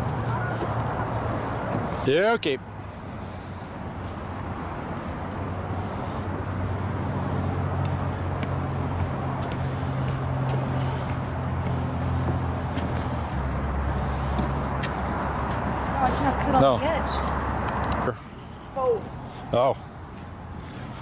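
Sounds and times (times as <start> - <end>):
engine humming: 2.6 - 21.0.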